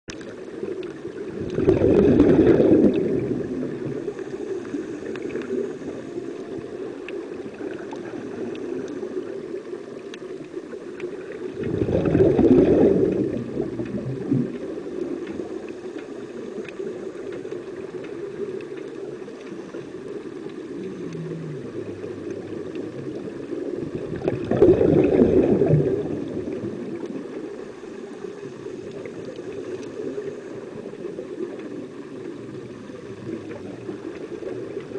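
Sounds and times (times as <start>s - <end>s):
regulator bubbles gurgling underwater: 0.1s - 34.9s
steady hum: 0.2s - 34.9s.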